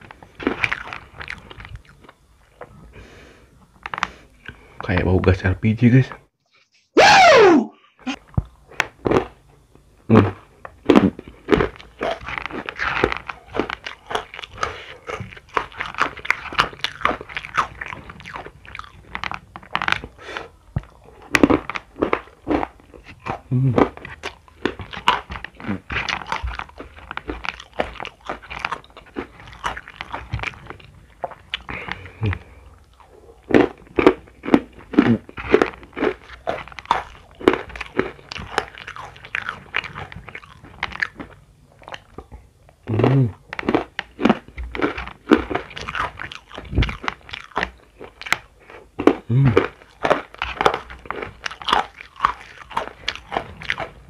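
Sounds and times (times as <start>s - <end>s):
crunchy peanuts being chewed: 0.0s - 6.3s, 8.1s - 54.0s.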